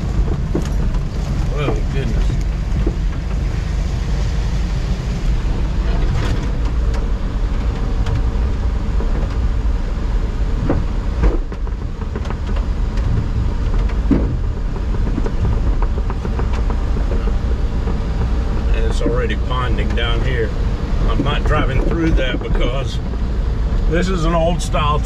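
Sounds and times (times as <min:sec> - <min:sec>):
knocks and rattles: 0:00.0 - 0:04.2, 0:05.0 - 0:25.0
engine and road rumble: 0:00.0 - 0:25.0.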